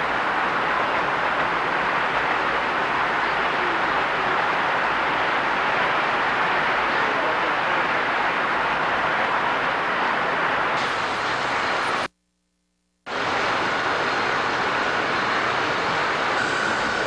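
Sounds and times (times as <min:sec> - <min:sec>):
model train rolling on track: 0:00.0 - 0:12.1, 0:13.1 - 0:17.0.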